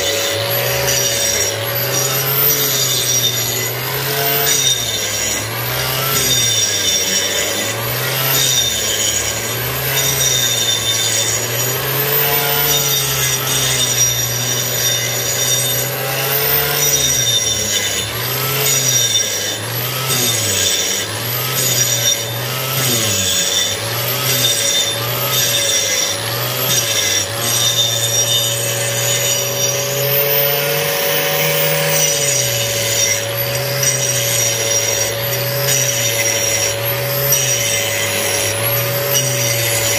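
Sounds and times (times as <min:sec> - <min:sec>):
angle grinder grinding concrete: 0:00.0 - 0:39.9.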